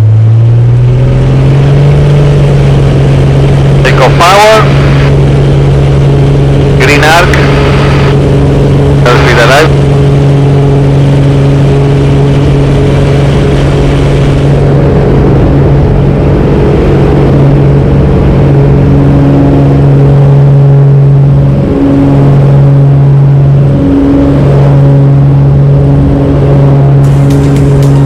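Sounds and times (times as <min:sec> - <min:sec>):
propeller plane engine drone: 0:00.0 - 0:28.0.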